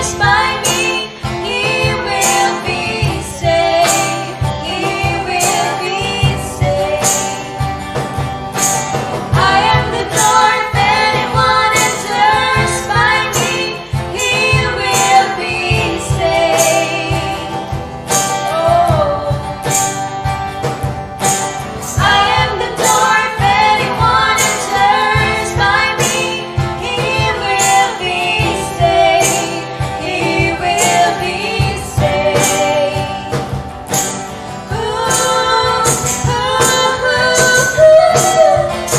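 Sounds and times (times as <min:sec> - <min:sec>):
women singing worship song: 0:00.0 - 0:07.9, 0:09.3 - 0:20.0, 0:21.8 - 0:38.9.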